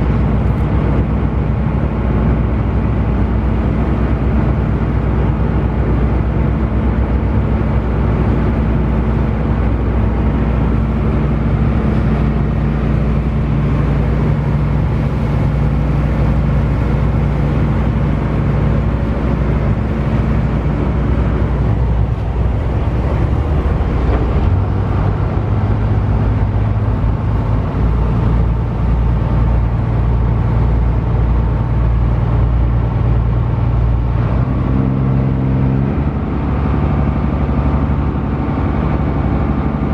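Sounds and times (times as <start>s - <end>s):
ferry diesel engine drone: 0.0s - 39.9s
water noise: 0.0s - 39.9s
wind noise: 0.0s - 39.9s.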